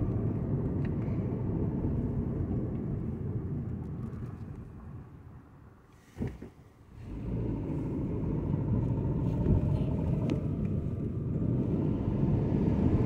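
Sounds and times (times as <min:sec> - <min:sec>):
car engine rumble from inside cabin: 0:00.0 - 0:13.0
road rumble: 0:00.0 - 0:13.0.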